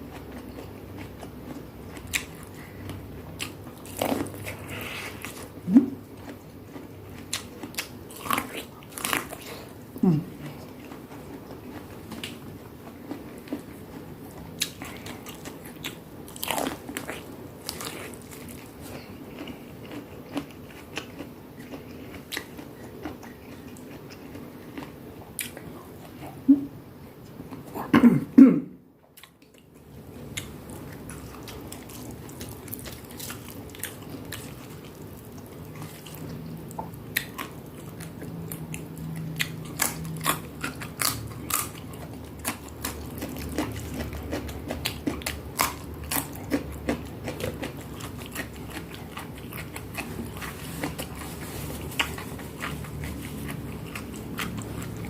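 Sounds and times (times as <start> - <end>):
chewing and crunching food: 0.0 - 27.9, 29.0 - 55.0.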